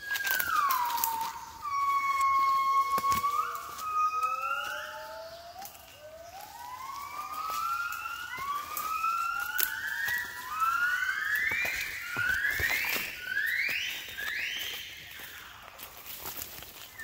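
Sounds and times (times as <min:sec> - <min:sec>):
gibbons whooping: 0:00.0 - 0:16.4.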